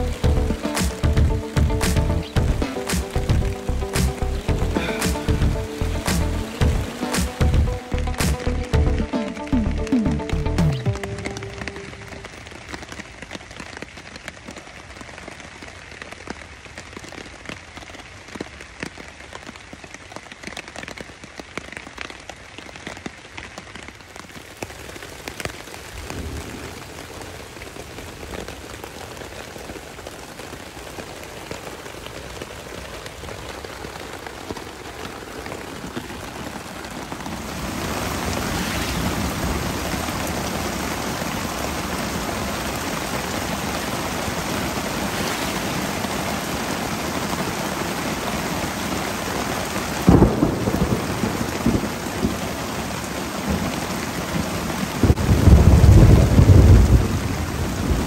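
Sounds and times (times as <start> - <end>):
rain falling: 0.0 - 58.0
raindrops ticking: 0.0 - 58.0.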